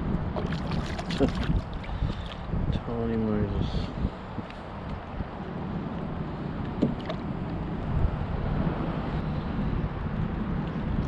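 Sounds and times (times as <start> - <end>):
water around boat: 0.0 - 11.0
wind: 0.0 - 11.0.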